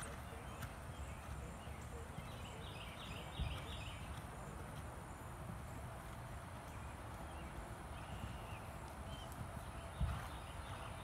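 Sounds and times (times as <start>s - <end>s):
horse hoofbeats: 0.0s - 11.0s.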